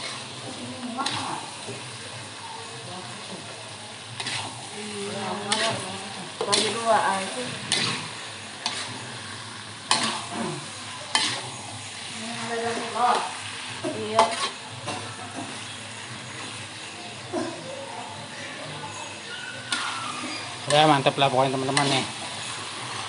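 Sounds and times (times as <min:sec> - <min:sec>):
spatula scraping frying pan: 0:00.0 - 0:02.3, 0:03.2 - 0:16.8, 0:18.9 - 0:23.0
oil sizzling: 0:00.0 - 0:23.0.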